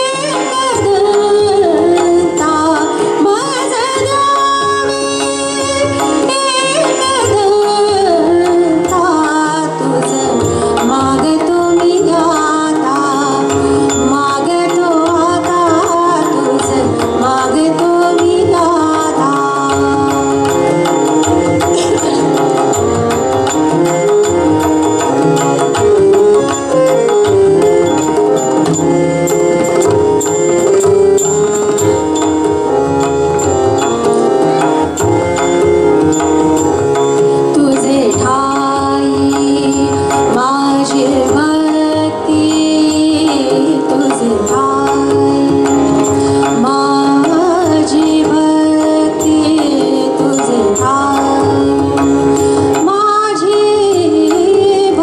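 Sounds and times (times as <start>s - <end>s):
woman singing: 0.0s - 32.7s, 37.1s - 55.0s
harmonium: 0.0s - 55.0s
tabla: 0.0s - 55.0s.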